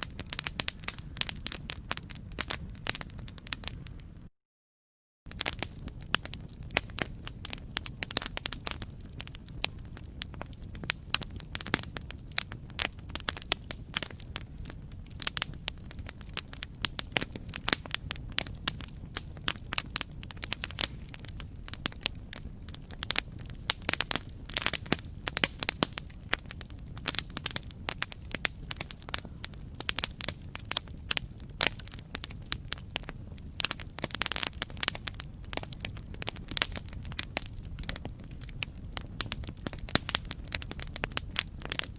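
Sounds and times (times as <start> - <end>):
campfire crackling: 0.0 - 4.3, 5.3 - 41.9.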